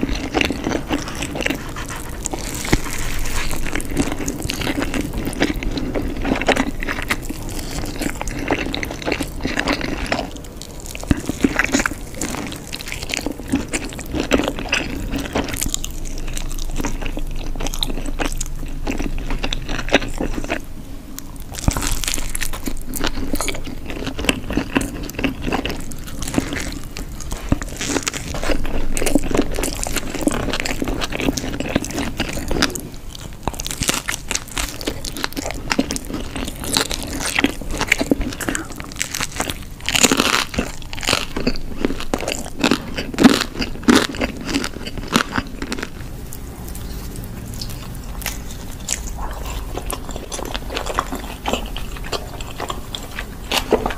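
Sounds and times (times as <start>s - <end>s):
chewing crunchy pizza: 0.0s - 53.9s.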